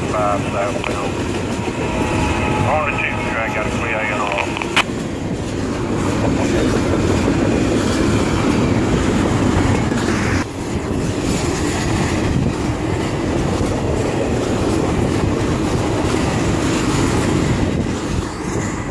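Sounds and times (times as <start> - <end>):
freight train passing at speed: 0.0 - 18.9
steel wheels running on rails: 0.0 - 18.9.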